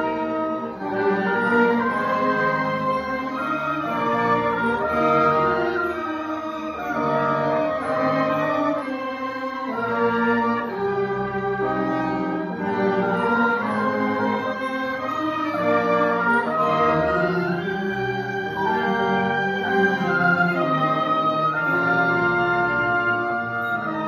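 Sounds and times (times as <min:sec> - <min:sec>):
bowed strings: 0:00.0 - 0:24.0
oboe: 0:00.0 - 0:24.0
trumpet: 0:00.0 - 0:24.0.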